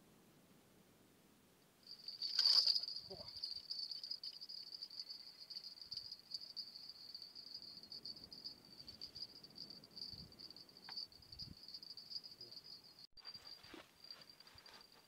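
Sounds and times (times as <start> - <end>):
insects chirring: 1.8 - 15.0.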